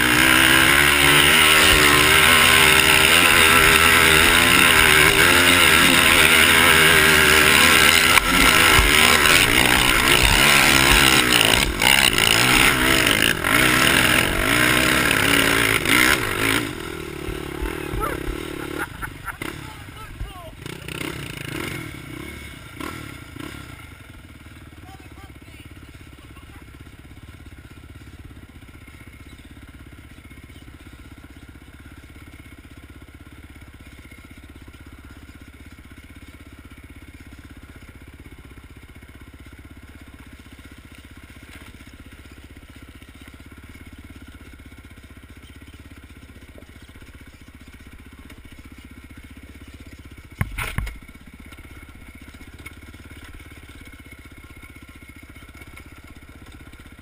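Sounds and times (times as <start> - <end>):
quad engine climbing hill: 0.0 - 57.0.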